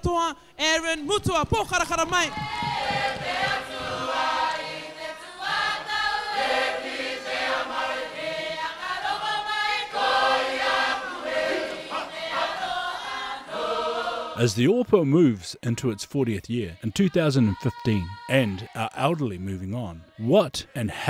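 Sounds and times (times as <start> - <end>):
congregation choir singing: 2.2 - 14.6, 15.8 - 20.3.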